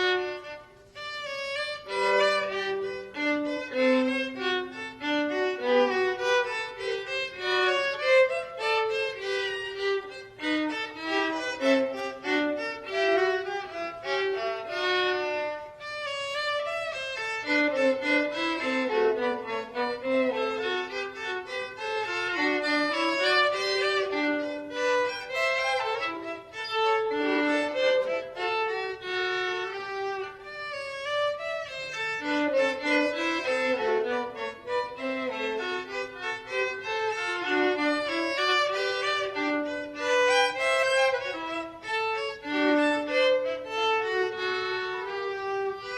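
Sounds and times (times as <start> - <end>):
violin playing fast notes: 0.0 - 45.9.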